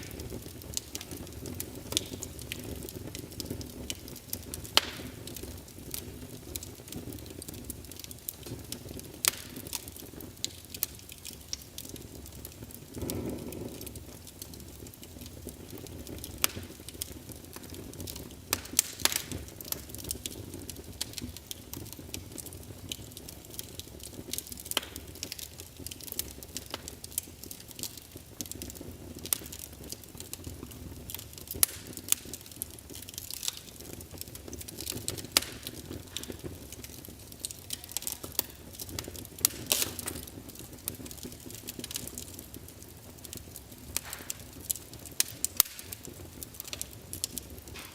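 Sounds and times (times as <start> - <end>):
fire popping and snapping: 0.0 - 47.9
fire rumbling: 0.0 - 47.9.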